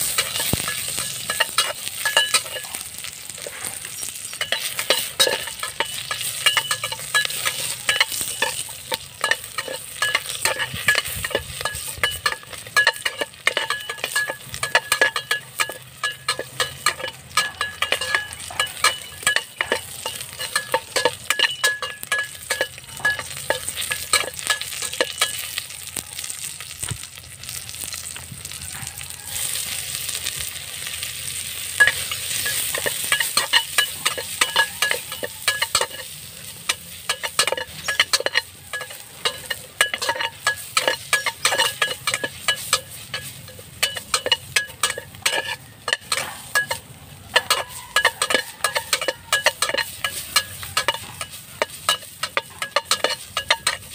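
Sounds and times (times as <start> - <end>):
metal ladle scraping pot: 0.0 - 25.6, 31.8 - 53.9.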